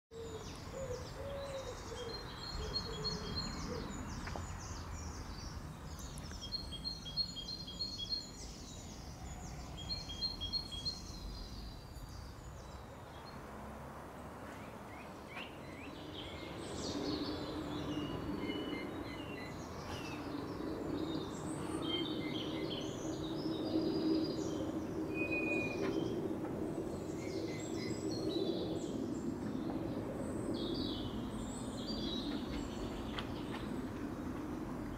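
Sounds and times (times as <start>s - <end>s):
outdoor background noise: 0.1s - 34.9s
songbirds chirping and singing: 0.2s - 13.5s, 14.4s - 34.9s.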